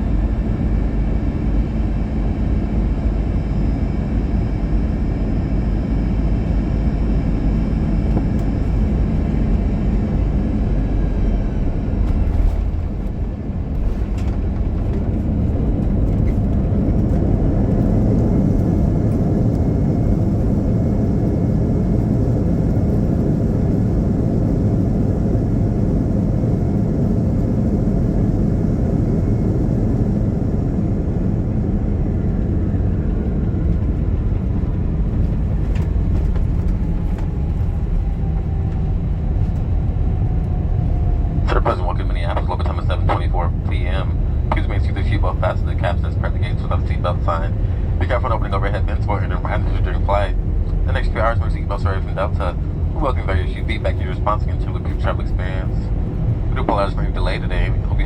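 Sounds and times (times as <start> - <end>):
aircraft cabin engine noise: 0.0 - 58.0.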